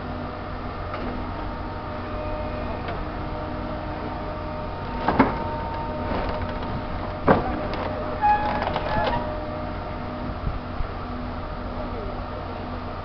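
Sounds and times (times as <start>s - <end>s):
engine hum with steady tones: 0.0s - 13.0s.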